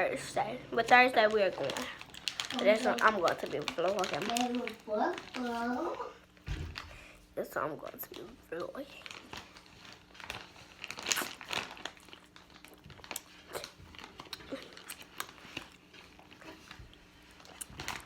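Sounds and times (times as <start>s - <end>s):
food crinkling and crunching: 0.8s - 7.0s, 7.9s - 18.0s.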